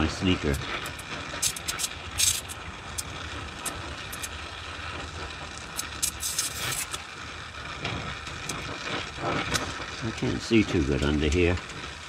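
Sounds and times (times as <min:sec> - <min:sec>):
welding arc crackling hiss: 0:00.0 - 0:12.0.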